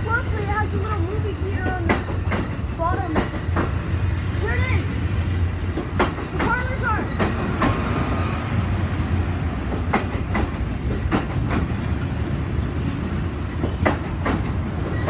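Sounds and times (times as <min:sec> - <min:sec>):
train cars rumbling past: 0:00.0 - 0:15.0
wheels clacking over rail joints: 0:00.0 - 0:15.0.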